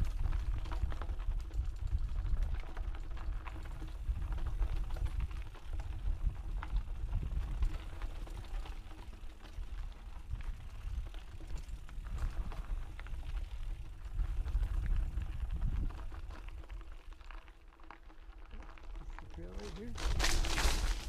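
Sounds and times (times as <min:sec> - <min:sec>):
bike clicking and rattling: 0:00.0 - 0:21.0
wind and tyres rumbling: 0:00.0 - 0:21.0.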